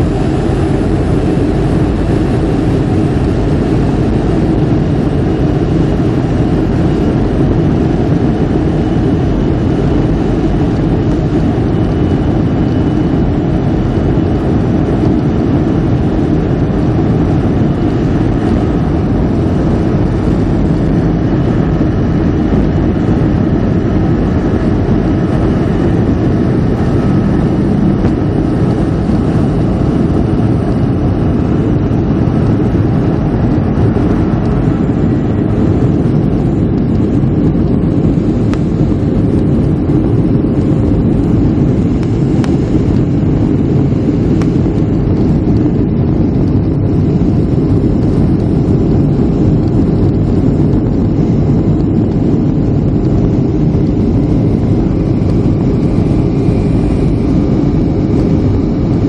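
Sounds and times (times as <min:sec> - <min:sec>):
faint high engine whine: 0:00.0 - 0:59.0
jet engine roar in cabin: 0:00.0 - 0:59.0.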